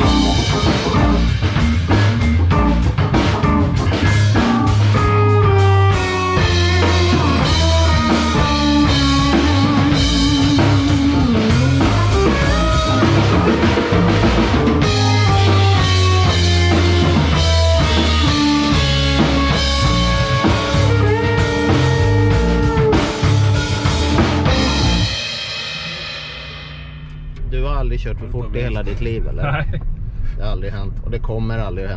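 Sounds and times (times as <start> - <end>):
keyboards: 0.0 - 26.2
electric guitar: 0.0 - 27.4
drum kit: 0.0 - 30.0
electric bass: 0.0 - 31.9.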